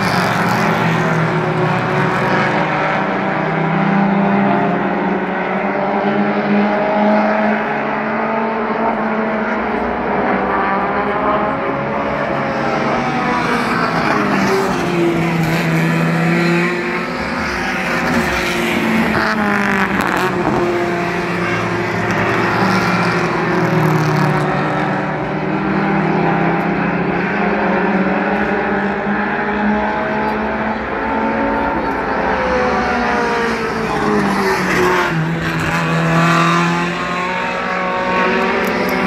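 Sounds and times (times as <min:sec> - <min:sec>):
race car engines passing: 0:00.0 - 0:39.0.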